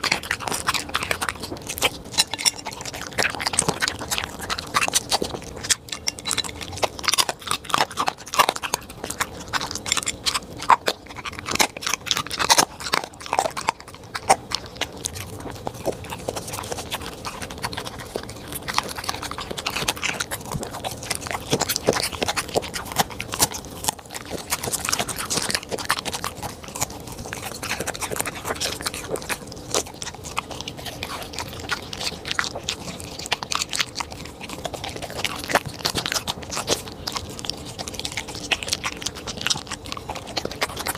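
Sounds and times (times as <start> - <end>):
dog crunching and chewing food: 0.0 - 40.9.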